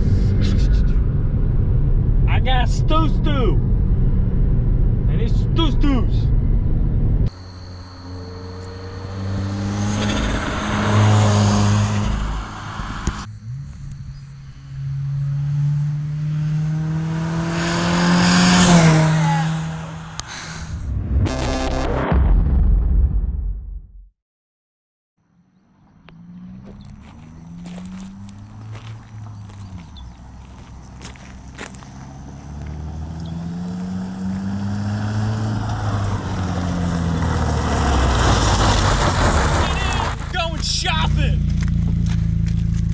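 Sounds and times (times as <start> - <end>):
car engine accelerating: 0.0 - 23.4, 25.7 - 42.9.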